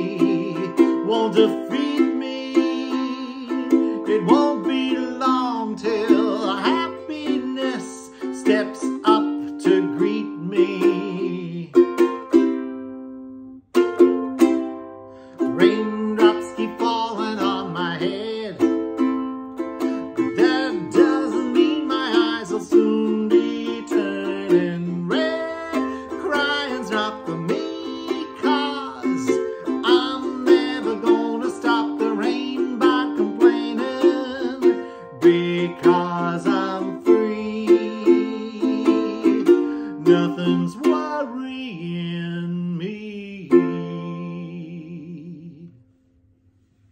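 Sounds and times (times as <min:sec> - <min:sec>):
man singing: 0:00.0 - 0:12.4, 0:15.3 - 0:19.2, 0:19.8 - 0:45.8
ukulele strummed: 0:00.0 - 0:45.8.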